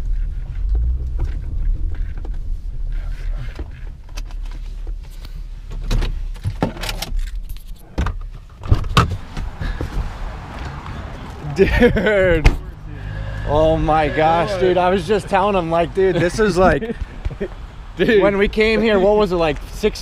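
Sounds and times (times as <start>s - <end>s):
vehicle rumble: 0.0s - 20.0s.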